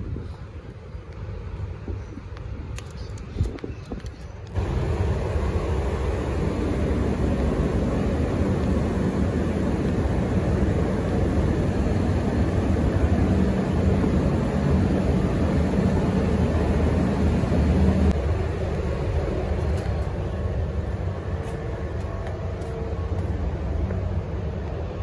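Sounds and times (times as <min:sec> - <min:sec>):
outdoor rumble: 0:02.4 - 0:25.0
low machine hum: 0:04.4 - 0:25.0.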